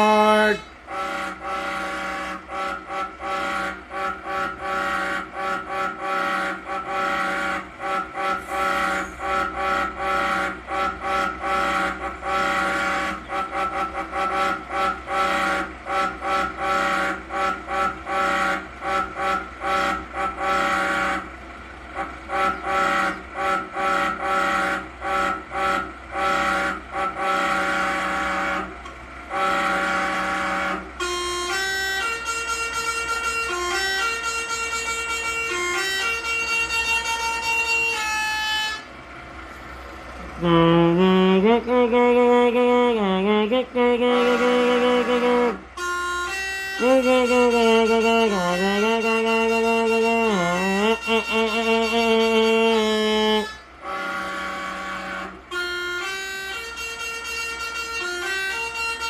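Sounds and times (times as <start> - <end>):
truck horn honking: 0.0 - 59.0.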